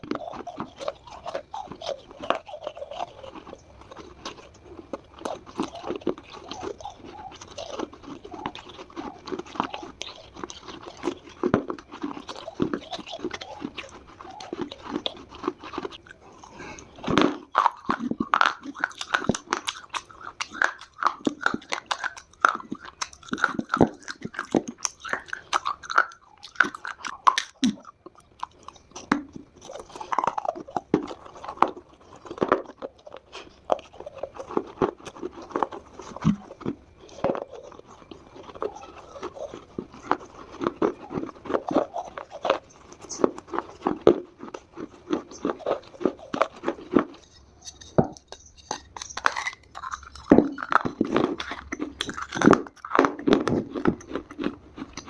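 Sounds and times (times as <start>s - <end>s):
crunching dry clay: 0.0s - 55.0s.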